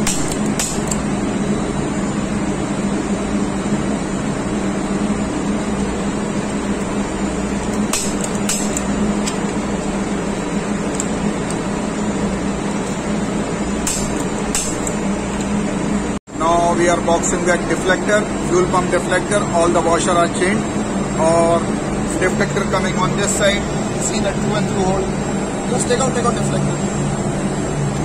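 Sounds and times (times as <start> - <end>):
machinery drone: 0.0 - 28.0.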